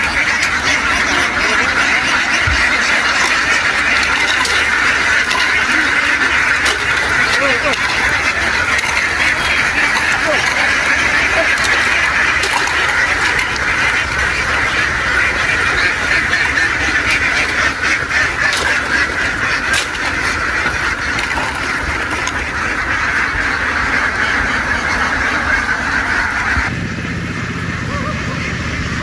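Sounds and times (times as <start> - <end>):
ducks quacking: 0.0 - 28.6.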